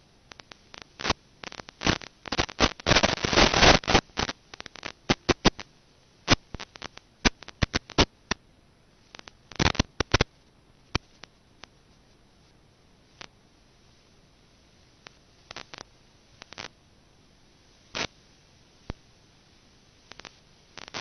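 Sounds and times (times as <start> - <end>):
crackling and clicking static: 0.0 - 21.0.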